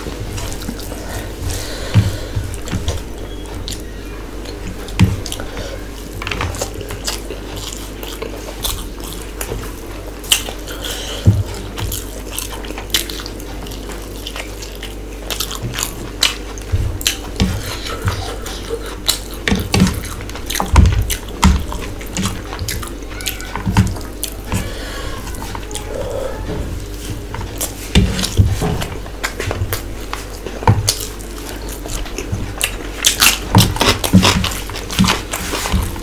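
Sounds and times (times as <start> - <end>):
wet chewing and lip-smacking: 0.2 - 25.9, 26.8 - 36.0.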